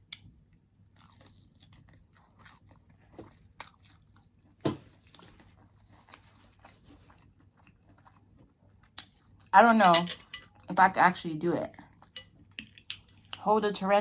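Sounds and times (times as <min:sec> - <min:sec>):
chewing and crunching food: 0:00.0 - 0:10.8, 0:11.7 - 0:13.5.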